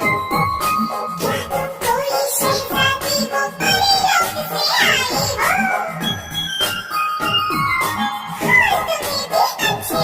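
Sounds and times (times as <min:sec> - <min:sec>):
upbeat children's song: 0:00.0 - 0:10.0.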